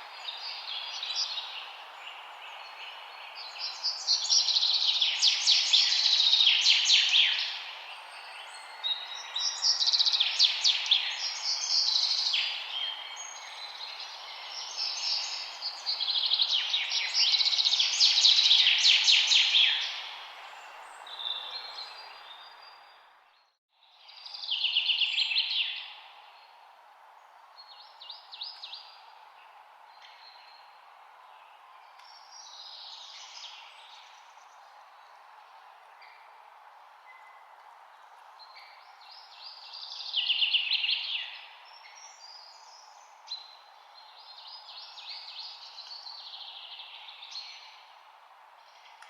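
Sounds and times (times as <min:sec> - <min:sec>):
songbirds chirping and trilling: 0:00.0 - 0:49.0.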